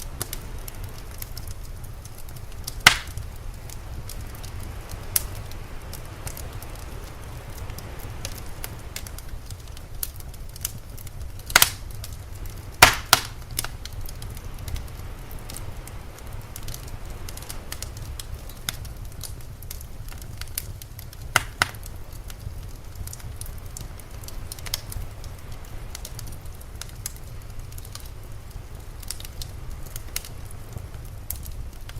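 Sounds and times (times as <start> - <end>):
low steady rumble: 0.0 - 31.9
wood fire crackling and popping: 0.0 - 31.9.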